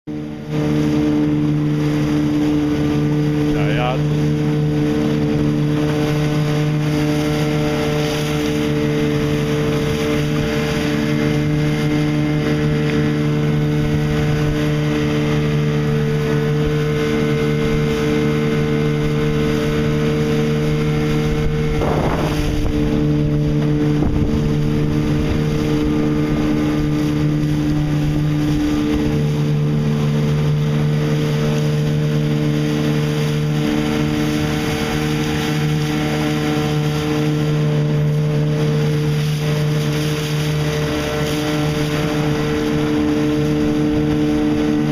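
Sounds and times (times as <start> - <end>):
boat through choppy water: 0.0 - 44.9
outboard motor running: 0.0 - 44.9
wind buffeting microphone: 0.4 - 44.9.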